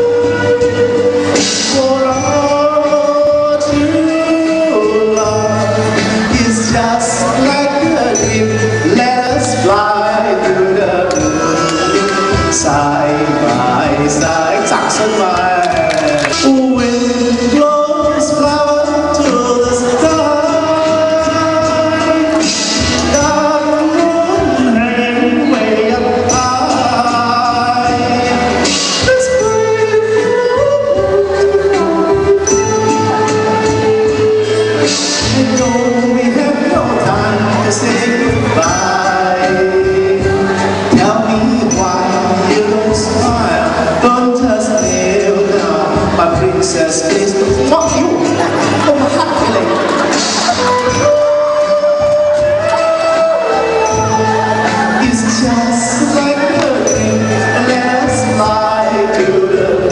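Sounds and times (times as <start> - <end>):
music with sung melody: 0.0 - 59.9.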